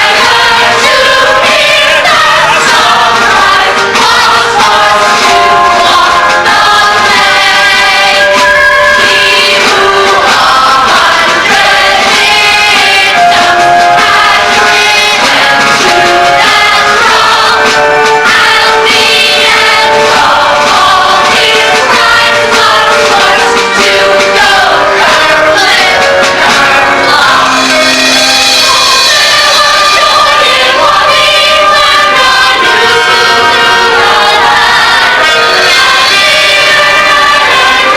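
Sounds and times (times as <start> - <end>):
instrumental accompaniment: 0.0 - 37.9
several voices singing: 0.0 - 37.9.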